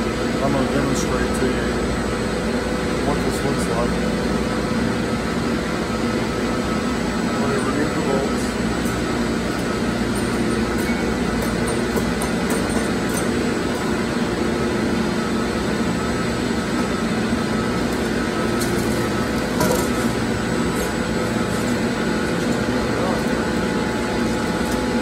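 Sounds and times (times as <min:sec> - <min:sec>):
machinery drone: 0:00.0 - 0:25.0.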